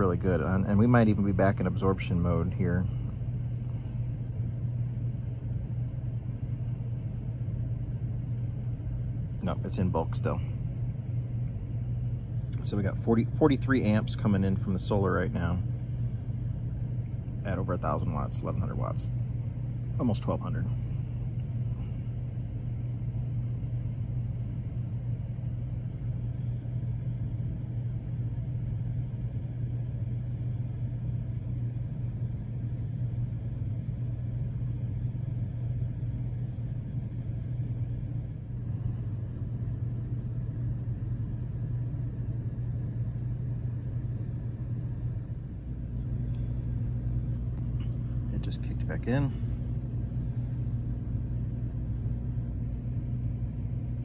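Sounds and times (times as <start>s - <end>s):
air conditioner fan humming: 0.0s - 54.0s
compressor higher hum: 0.0s - 54.0s.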